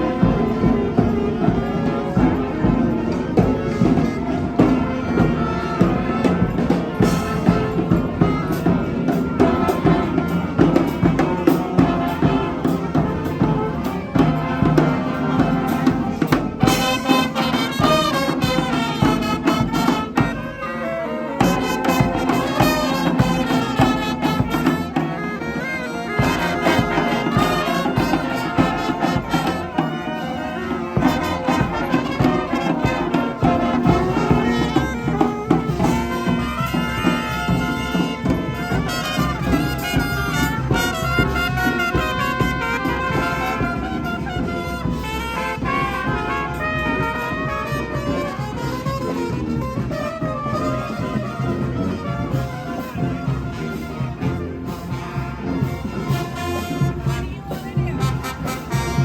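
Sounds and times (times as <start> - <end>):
drums: 0.0 - 59.0
trumpets and trombones: 0.0 - 59.0.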